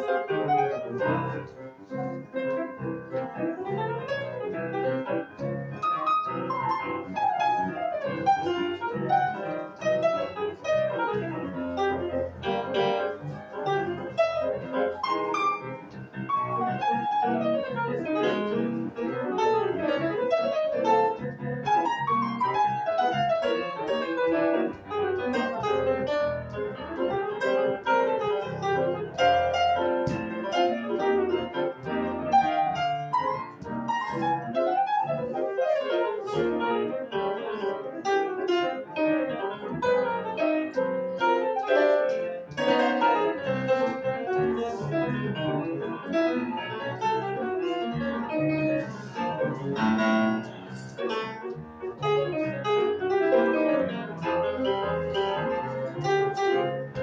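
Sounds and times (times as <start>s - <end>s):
two pianos playing jazz: 0.0s - 57.0s.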